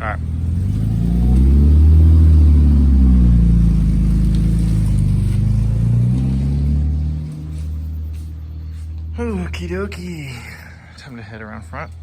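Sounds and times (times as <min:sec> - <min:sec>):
car engine pulling away: 0:00.0 - 0:12.0.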